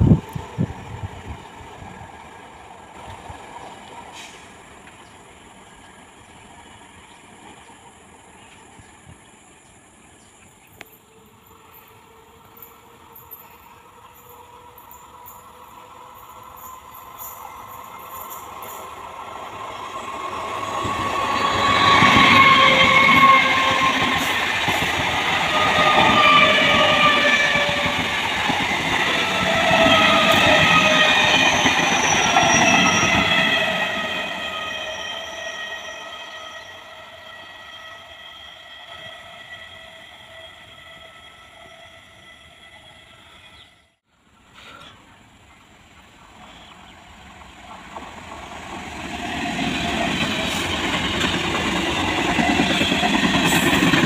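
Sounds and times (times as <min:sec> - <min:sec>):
train wheels rumbling on rails: 0:00.0 - 0:09.7, 0:10.8 - 0:43.6, 0:46.2 - 0:54.0.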